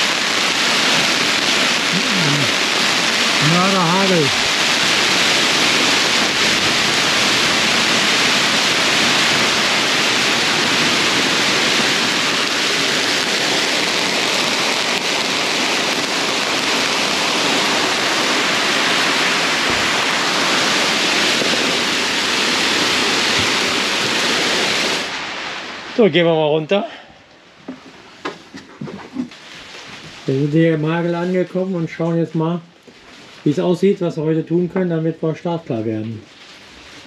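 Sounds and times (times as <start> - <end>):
hail pelting down: 0.0 - 26.7, 28.1 - 34.8.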